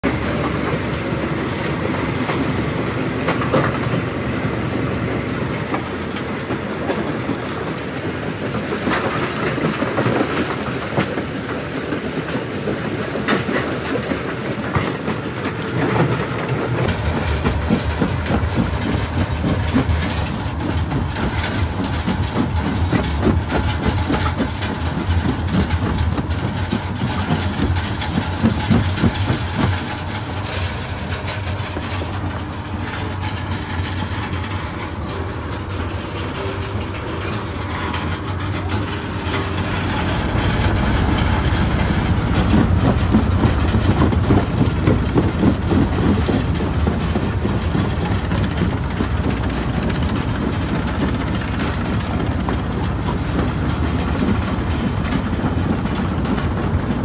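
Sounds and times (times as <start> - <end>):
stone crusher mechanical rumble: 0.0 - 57.0.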